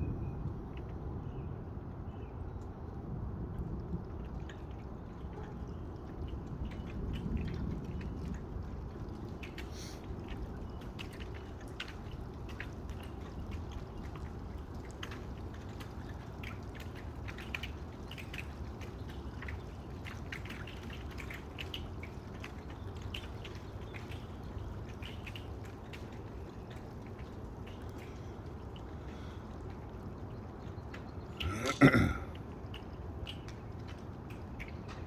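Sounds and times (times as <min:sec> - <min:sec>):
rain falling: 0:00.4 - 0:35.0
water drops ticking on hard surfaces: 0:03.5 - 0:35.0.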